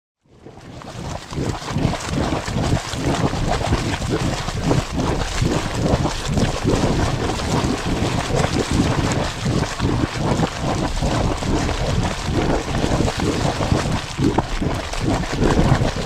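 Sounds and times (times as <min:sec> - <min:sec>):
hot spring water bubbling: 0:00.3 - 0:16.0.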